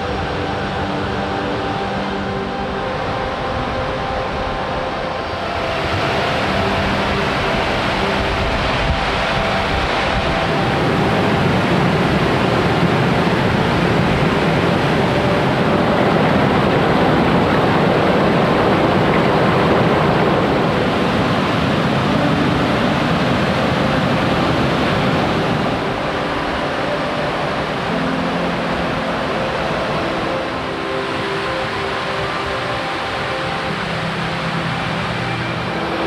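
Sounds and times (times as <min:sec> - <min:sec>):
creek rushing over rocks: 0:04.0 - 0:36.0.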